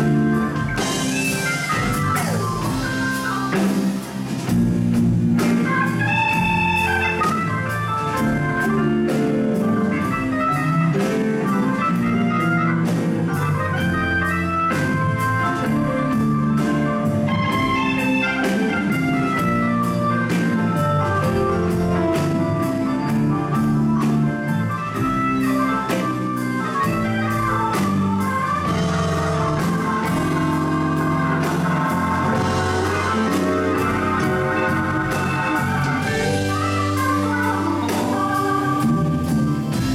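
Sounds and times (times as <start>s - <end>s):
electric guitar: 0.0s - 39.9s
organ playing: 0.0s - 39.9s
steady drum beat: 0.0s - 39.9s.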